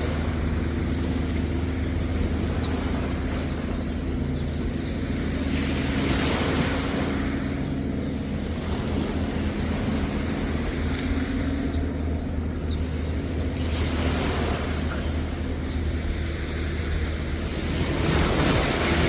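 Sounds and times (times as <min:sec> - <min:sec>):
low engine hum: 0:00.0 - 0:19.0
waves washing onto beach: 0:00.0 - 0:19.0.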